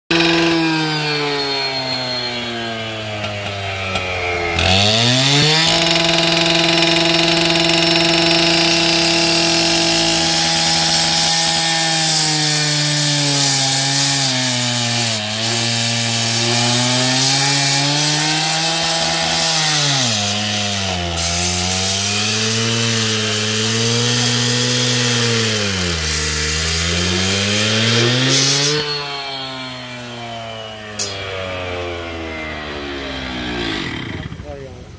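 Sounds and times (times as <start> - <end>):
blade grinding masonry: 0.0 - 34.9
cut-off saw engine revving: 0.0 - 34.9.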